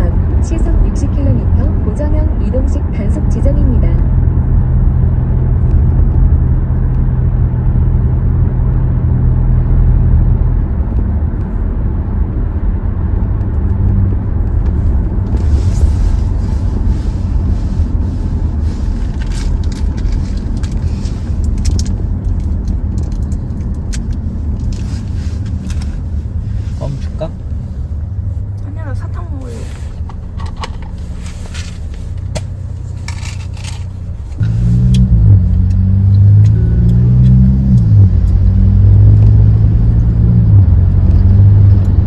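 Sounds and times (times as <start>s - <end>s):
car engine drone: 0.0s - 42.0s
road noise: 0.0s - 42.0s.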